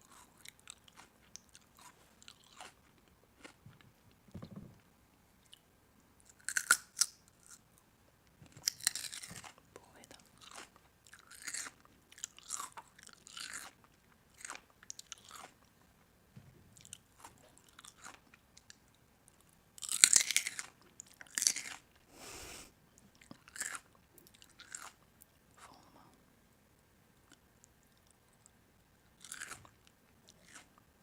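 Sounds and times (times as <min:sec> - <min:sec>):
crunchy food being chewed: 0:00.0 - 0:04.7, 0:05.4 - 0:07.8, 0:08.4 - 0:15.9, 0:16.8 - 0:22.1, 0:23.0 - 0:25.9, 0:27.2 - 0:30.9.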